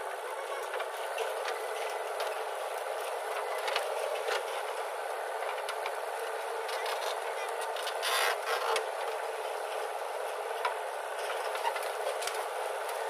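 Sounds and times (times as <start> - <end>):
backhoe loader running: 0.0 - 13.0.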